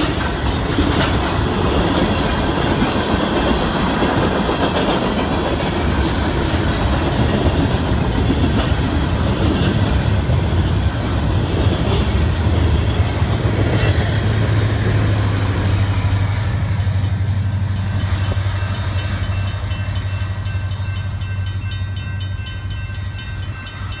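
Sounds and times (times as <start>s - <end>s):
diesel locomotive engine drone: 0.0s - 24.0s
train wheel and rail noise: 0.0s - 24.0s.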